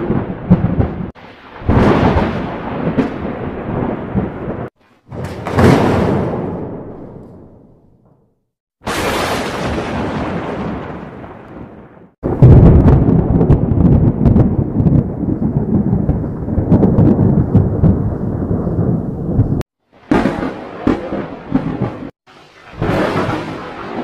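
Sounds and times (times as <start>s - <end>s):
thunder clap rolling: 0.0s - 24.0s.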